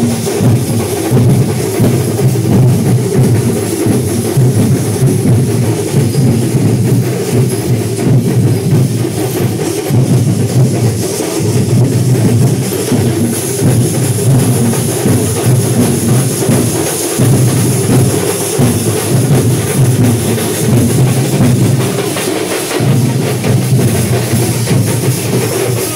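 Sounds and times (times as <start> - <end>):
drum-led percussion music: 0.0 - 25.9.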